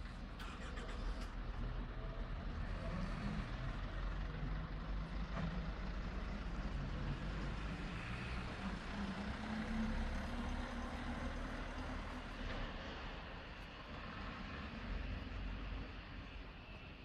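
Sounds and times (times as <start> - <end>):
diesel truck engines passing: 0.0 - 17.0.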